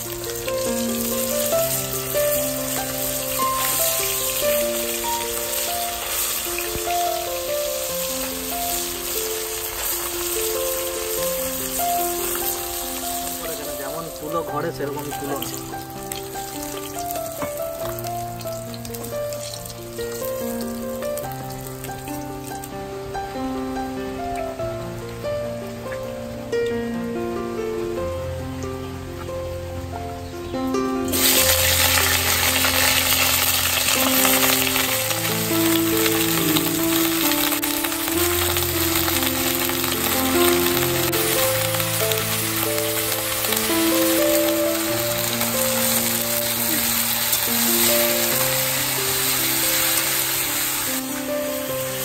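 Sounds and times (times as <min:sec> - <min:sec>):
fish sizzling in oil: 0:00.0 - 0:24.6, 0:31.1 - 0:52.0
slow background melody: 0:00.0 - 0:52.0
slow background music with bass: 0:00.0 - 0:52.0.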